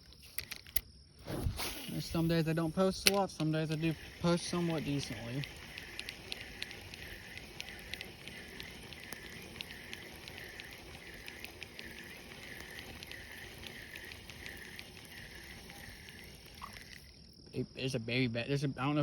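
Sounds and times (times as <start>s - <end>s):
insects chirping: 0.0s - 19.0s
faint ticks: 2.2s - 17.6s.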